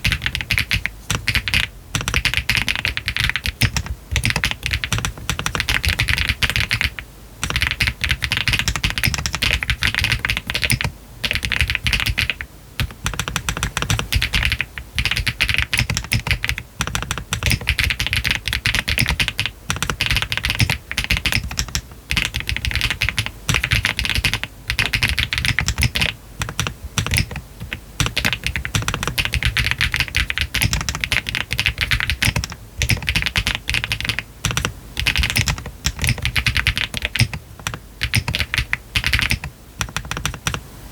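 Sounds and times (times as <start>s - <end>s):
mechanical keyboard typing: 0.0s - 40.6s.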